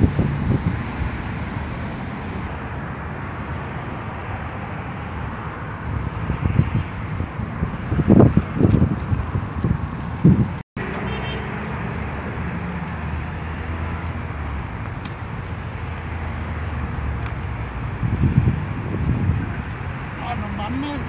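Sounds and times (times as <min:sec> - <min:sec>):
wind on microphone: 0:00.0 - 0:02.6, 0:03.2 - 0:10.6, 0:11.7 - 0:20.7
car engine rumble: 0:00.0 - 0:21.0.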